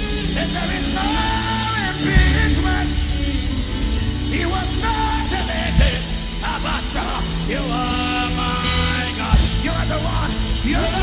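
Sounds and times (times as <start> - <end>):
live worship band music: 0.0 - 11.0.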